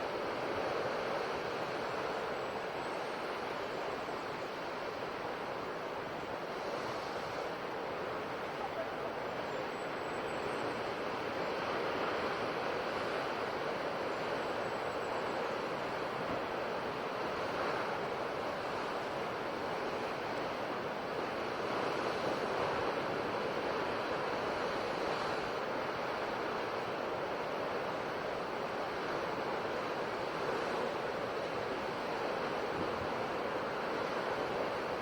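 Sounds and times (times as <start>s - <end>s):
sea waves washing on shore: 0.0s - 35.0s.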